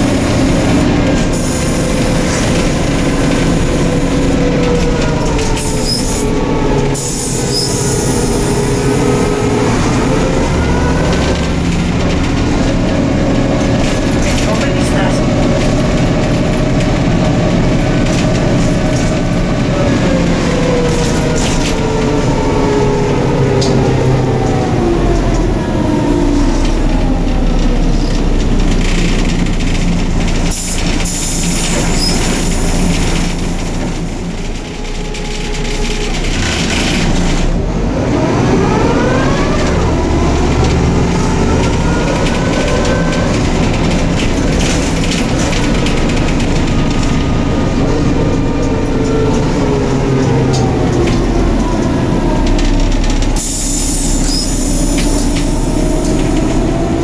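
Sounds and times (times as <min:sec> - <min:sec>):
bus drivetrain whine: 0:00.0 - 0:57.0.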